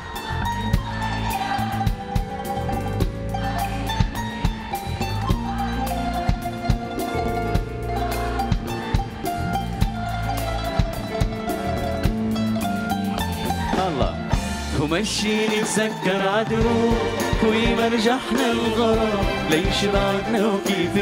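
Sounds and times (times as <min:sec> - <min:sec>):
drum kit beat: 0:00.0 - 0:21.0
live band instrumental: 0:00.0 - 0:21.0.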